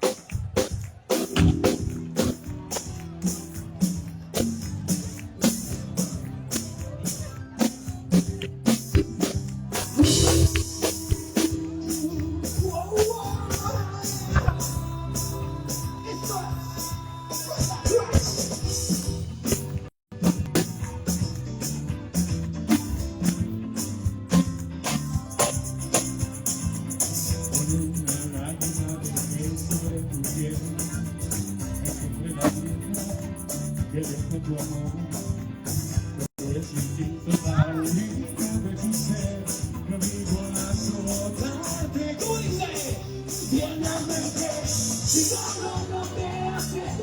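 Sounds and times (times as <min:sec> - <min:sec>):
drum kit beat: 0:00.0 - 0:47.0
tambourine: 0:00.0 - 0:47.0.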